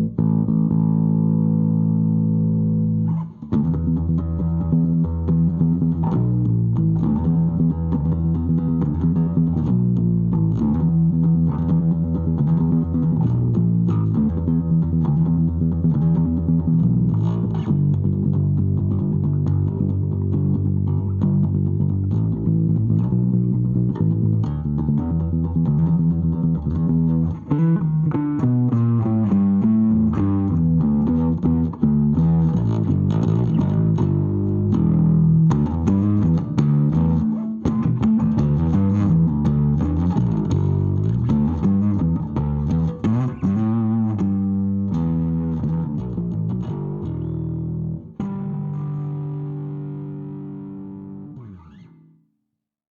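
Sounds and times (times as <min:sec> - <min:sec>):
overdriven bass guitar notes: 0:00.0 - 0:52.3.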